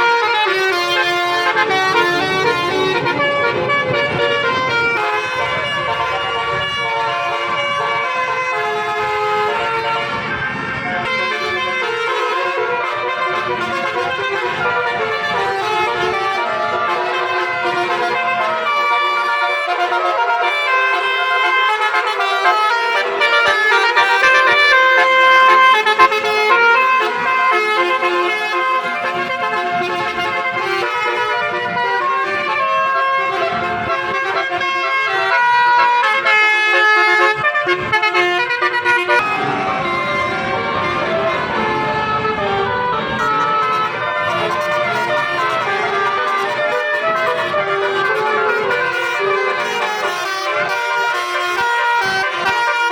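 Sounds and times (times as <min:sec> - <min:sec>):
multi-tone trumpet horn playing tune: 0:00.0 - 0:10.4, 0:11.0 - 0:52.9.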